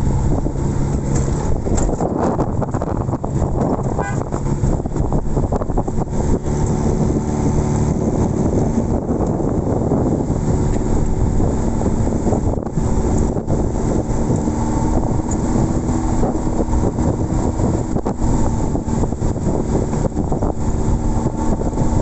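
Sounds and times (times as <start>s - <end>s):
jeep engine droning: 0.0s - 22.0s
wind and road noise: 0.0s - 22.0s.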